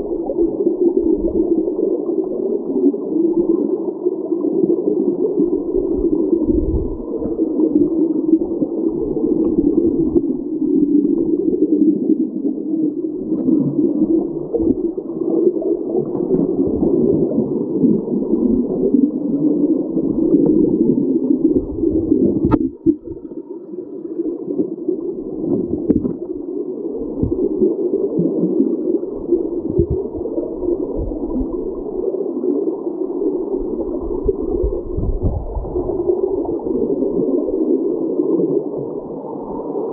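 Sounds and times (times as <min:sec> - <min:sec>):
muffled underwater water rushing: 0:00.0 - 0:39.9.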